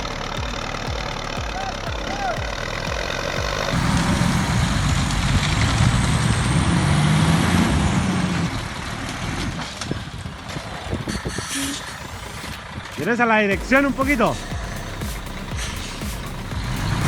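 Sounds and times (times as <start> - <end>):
heavy truck engine under load: 0.0 - 17.0.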